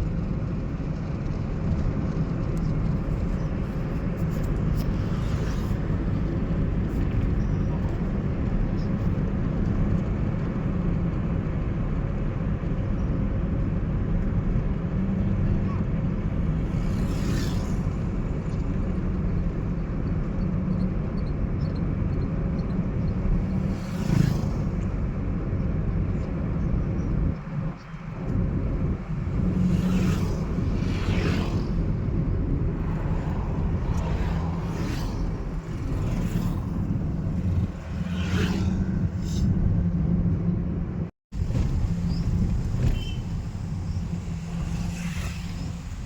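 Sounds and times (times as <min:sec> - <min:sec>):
car engine and road rumble: 0:00.0 - 0:46.0
passing traffic whooshes: 0:00.0 - 0:46.0.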